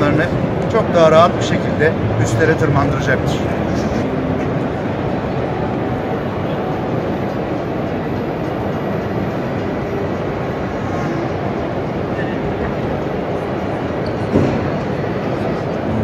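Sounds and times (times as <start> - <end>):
crowd hubbub in a hall: 0.0 - 16.0.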